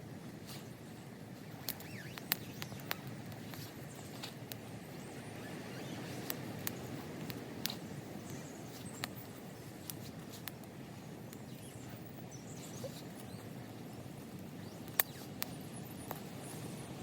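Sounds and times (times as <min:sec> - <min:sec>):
wood fire crackling: 0:00.0 - 0:12.2, 0:13.2 - 0:15.7
low background noise: 0:00.0 - 0:17.0.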